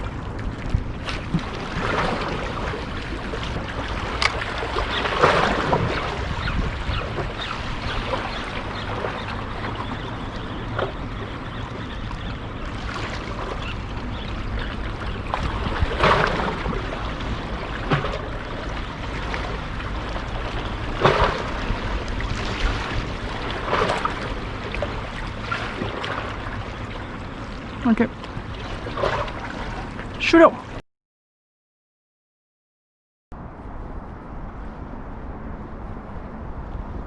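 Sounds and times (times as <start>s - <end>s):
wind on microphone: 0.0s - 30.2s, 33.4s - 37.0s
water lapping against wall: 1.0s - 30.8s.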